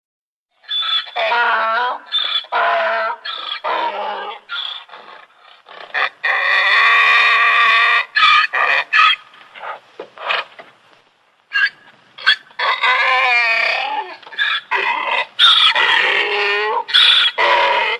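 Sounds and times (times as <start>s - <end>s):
donkey braying: 0.6s - 10.6s, 11.5s - 17.9s.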